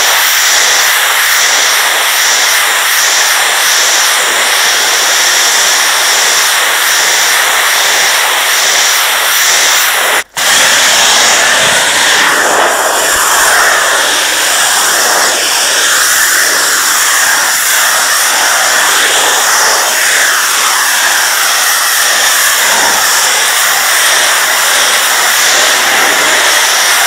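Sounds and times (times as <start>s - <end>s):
pressure washer jet hissing: 0.0s - 27.0s.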